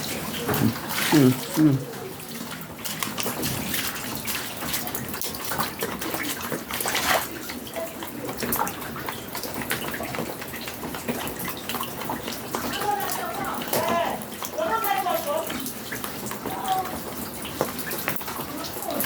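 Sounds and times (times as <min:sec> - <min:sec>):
rainwater pouring and splashing: 0:00.0 - 0:19.0
water drips and splashes: 0:00.0 - 0:19.0.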